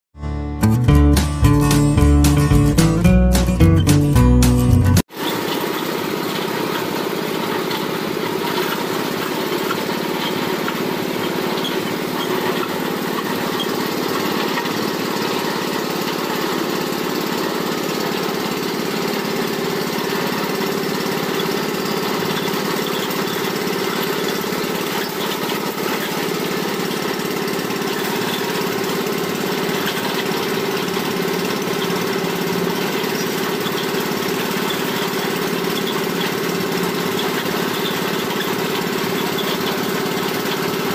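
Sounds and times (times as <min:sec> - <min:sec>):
small engine running steadily: 0:05.0 - 0:40.9.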